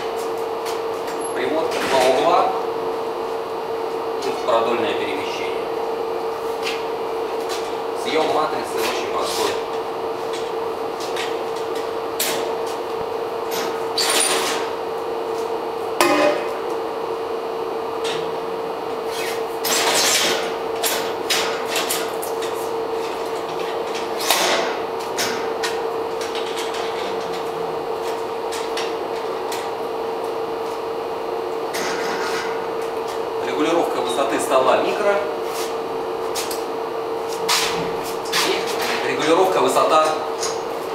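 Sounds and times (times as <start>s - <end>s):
steady hum: 0.0s - 40.9s.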